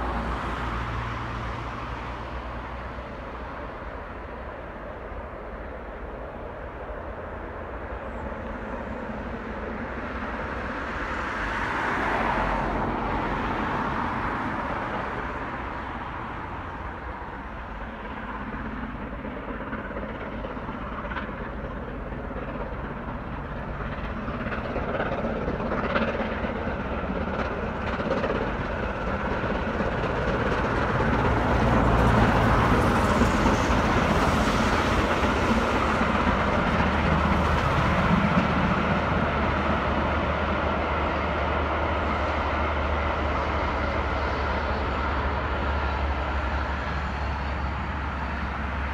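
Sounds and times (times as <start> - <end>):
distant steam locomotive working: 0.0 - 48.9.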